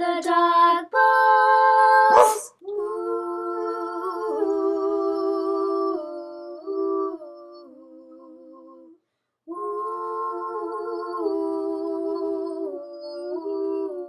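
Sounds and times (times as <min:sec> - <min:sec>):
hummed vocal harmony: 0:00.0 - 0:14.0.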